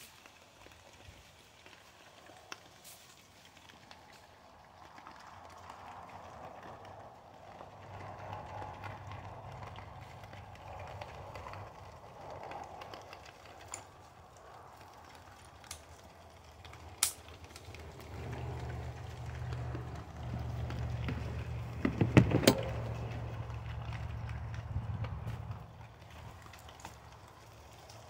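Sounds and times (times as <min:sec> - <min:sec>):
hogs chewing and rooting: 0:00.0 - 0:28.0.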